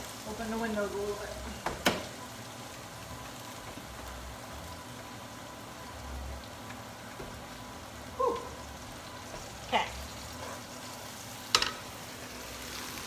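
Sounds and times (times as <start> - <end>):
leeks sizzling in a pan: 0.0 - 13.0.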